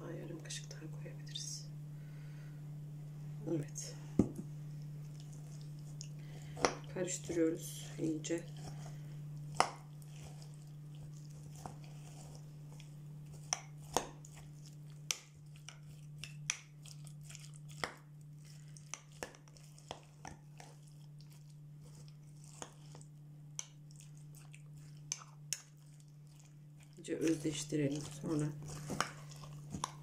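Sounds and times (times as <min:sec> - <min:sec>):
steady low hum: 0:00.0 - 0:30.0
onion crunching: 0:05.1 - 0:30.0.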